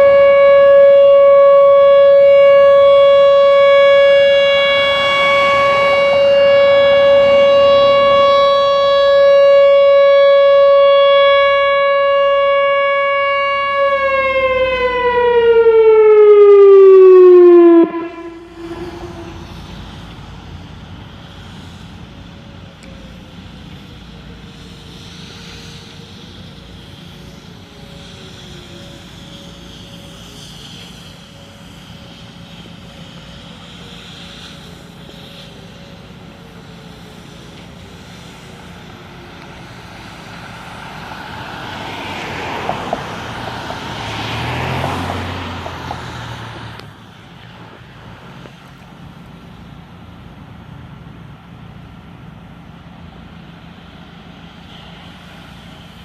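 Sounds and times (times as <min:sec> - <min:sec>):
passing engine: 0:00.0 - 0:56.0.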